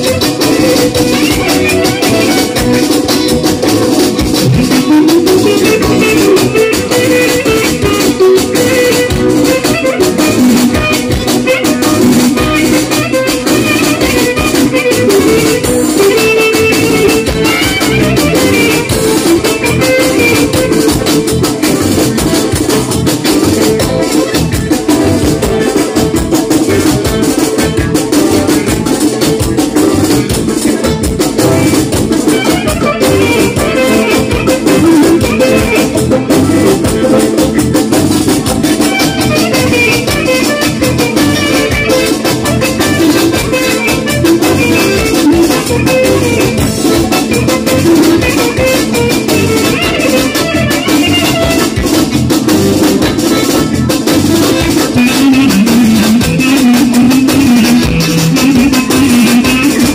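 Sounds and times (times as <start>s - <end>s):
clarinet melody: 0.0s - 59.9s
electronic drum dance beat: 0.0s - 59.9s
keyboard: 0.0s - 59.9s.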